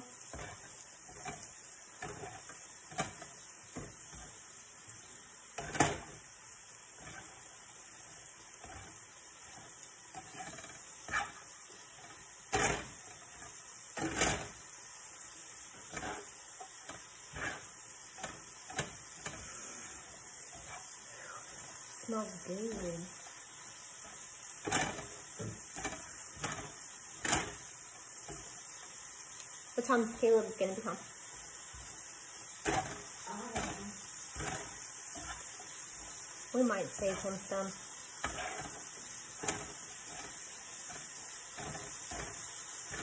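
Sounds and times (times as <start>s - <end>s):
utensil scraping a pan: 0.0s - 14.7s, 15.6s - 28.9s, 31.7s - 43.0s
food sizzling in a pan: 0.0s - 43.0s.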